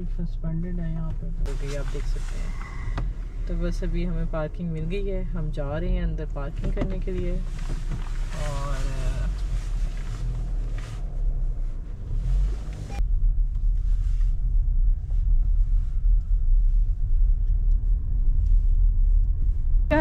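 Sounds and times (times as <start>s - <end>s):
car rumble from inside cabin: 0.0s - 20.0s.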